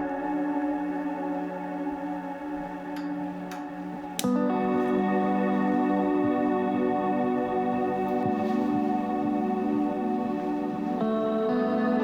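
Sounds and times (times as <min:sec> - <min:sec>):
slow instrumental held chords: 0:00.0 - 0:12.0.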